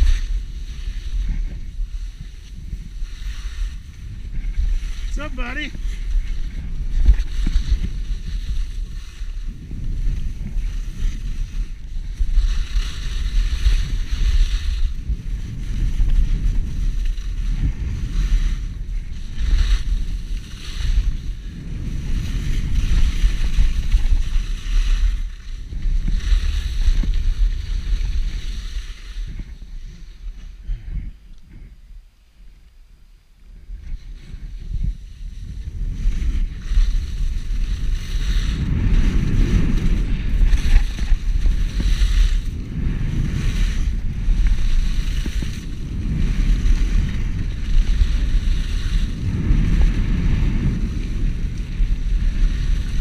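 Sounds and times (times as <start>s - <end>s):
skis sliding on snow: 0.0s - 31.7s, 33.5s - 53.0s
wind buffeting microphone: 0.0s - 32.6s, 33.4s - 53.0s.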